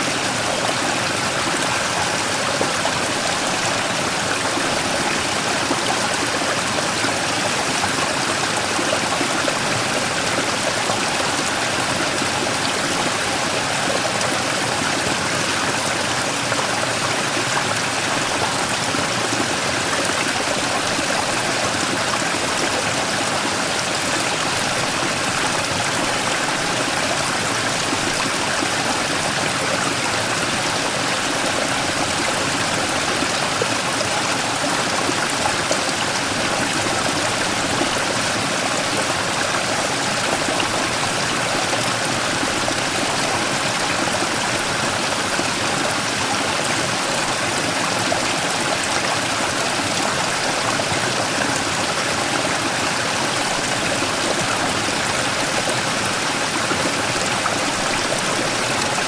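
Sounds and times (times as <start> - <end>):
stream rushing over rock: 0.0 - 59.0.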